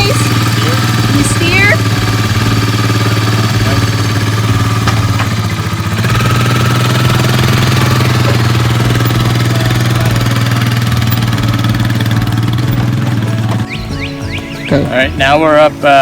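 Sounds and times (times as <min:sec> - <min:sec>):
farm vehicle engine running: 0:00.0 - 0:16.0.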